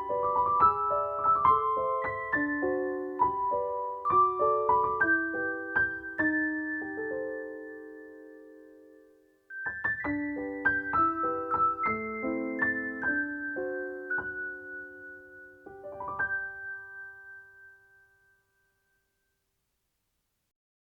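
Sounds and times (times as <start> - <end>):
piano music: 0.0 - 18.5.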